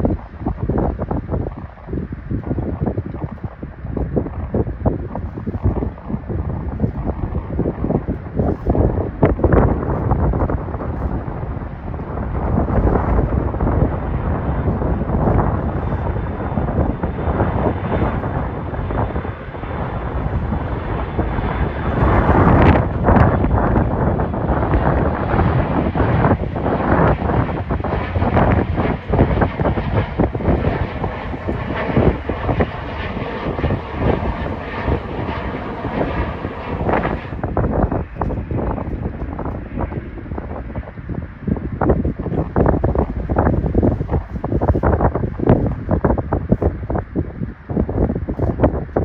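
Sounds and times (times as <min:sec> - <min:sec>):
jet engines rumbling: 0:00.0 - 0:49.0
wind buffeting microphone: 0:00.0 - 0:49.0.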